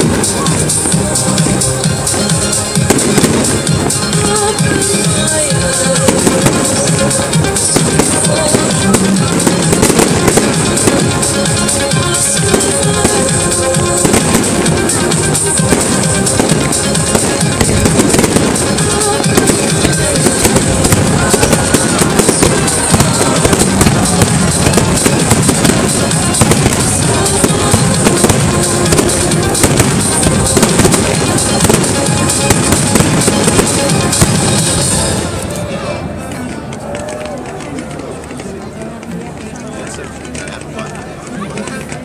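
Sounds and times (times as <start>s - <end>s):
fireworks bursting and crackling: 0.0s - 37.3s
music playing: 0.0s - 42.0s.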